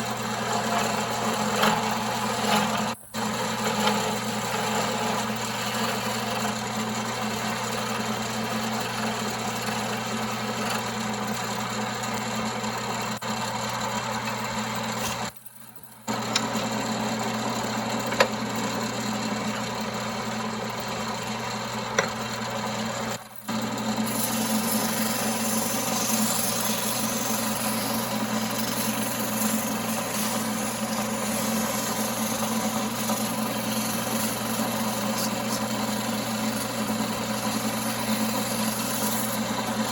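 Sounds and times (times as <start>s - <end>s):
wood lathe motor hum: 0.0s - 39.9s.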